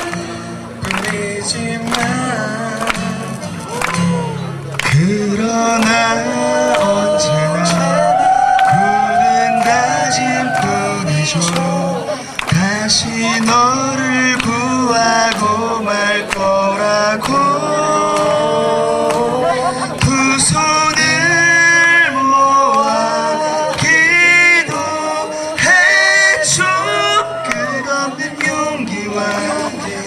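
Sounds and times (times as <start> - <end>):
men singing through pa: 4.9 - 30.0.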